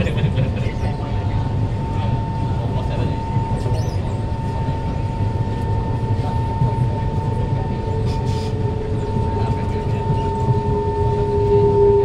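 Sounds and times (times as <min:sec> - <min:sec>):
train wheels rumbling on rail: 0:00.0 - 0:12.0
traction motor whine: 0:00.8 - 0:12.0.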